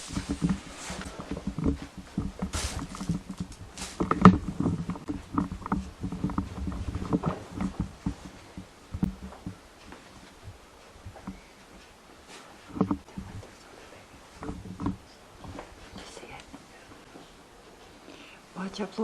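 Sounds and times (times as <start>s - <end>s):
small knocks: 0.0s - 13.5s, 14.3s - 16.4s
rustling scrapes: 0.0s - 18.0s
footsteps: 0.0s - 18.1s.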